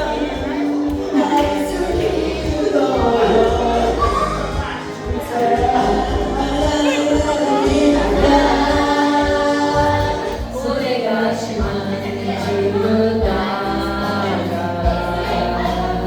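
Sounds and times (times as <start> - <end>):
low musical accompaniment: 0.0 - 16.0
voices singing together: 0.0 - 16.0.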